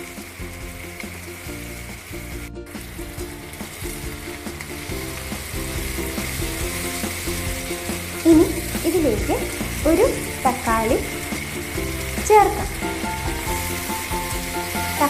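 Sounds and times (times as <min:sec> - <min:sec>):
soft background music: 0:00.0 - 0:15.0
vegetables sizzling in hot oil: 0:00.0 - 0:15.0.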